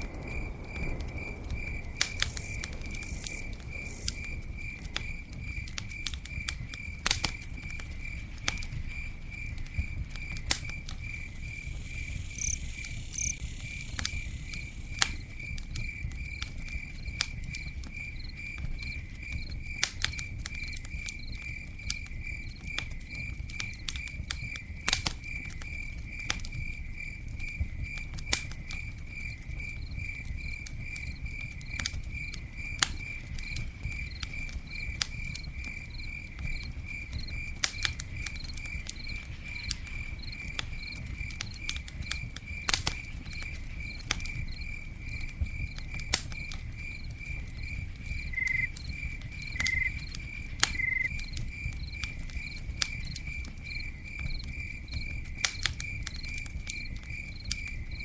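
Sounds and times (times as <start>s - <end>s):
campfire crackling and popping: 0.0s - 58.0s
cricket chirping: 0.0s - 58.0s.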